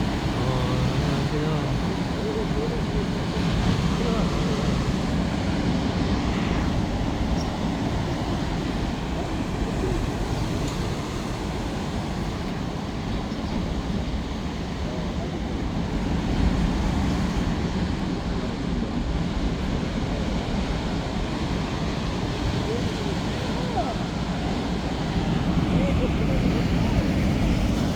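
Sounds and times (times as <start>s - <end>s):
sea surf rumble: 0.0s - 27.9s.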